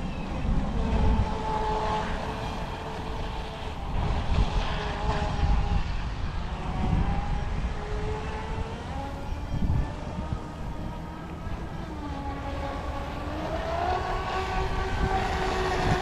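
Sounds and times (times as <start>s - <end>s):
electric motor high whine: 0.0s - 16.0s
wind buffeting microphone: 0.0s - 16.0s.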